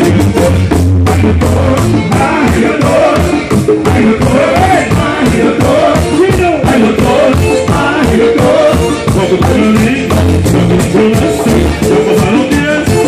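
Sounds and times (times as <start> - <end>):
accordion: 0.0 - 13.0
fast percussion beat: 0.0 - 13.0
man singing: 0.0 - 13.0.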